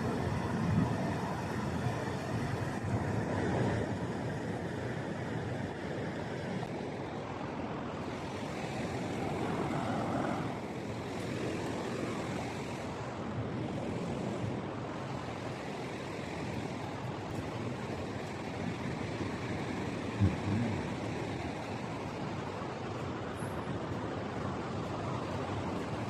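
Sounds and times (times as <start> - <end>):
ocean surf washing onto beach: 0.0 - 26.0.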